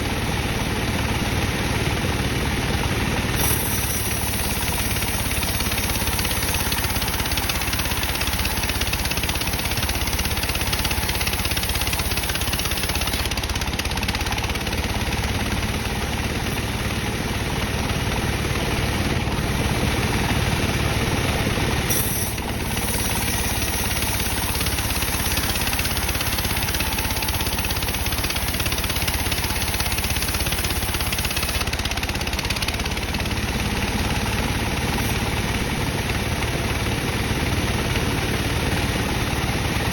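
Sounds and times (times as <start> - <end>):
band saw droning: 3.2 - 13.4, 14.4 - 39.9.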